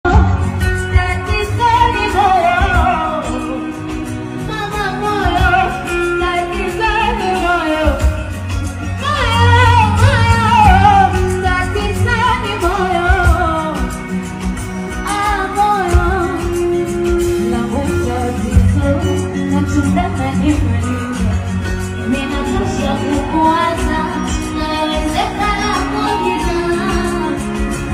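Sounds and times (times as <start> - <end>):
amplified band music with heavy bass: 0.0 - 27.9.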